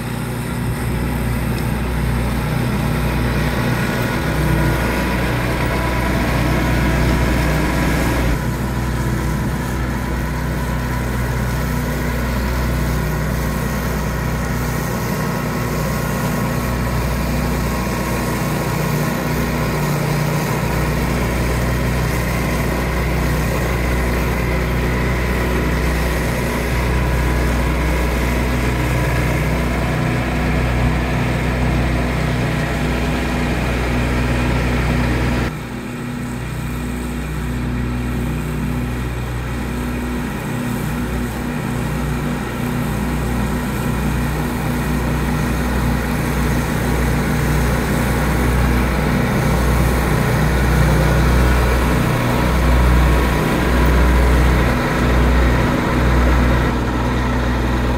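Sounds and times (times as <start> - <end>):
diesel tractor running: 0.0 - 57.9
flail mower cutting grass: 0.0 - 57.9.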